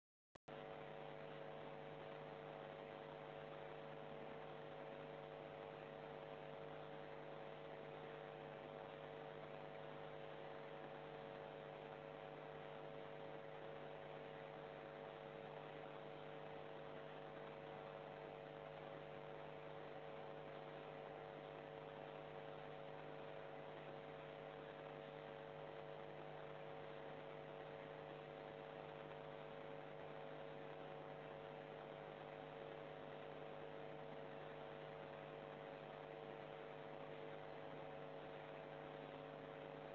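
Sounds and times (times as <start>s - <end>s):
faint electrical hum and hiss: 0.5s - 39.9s.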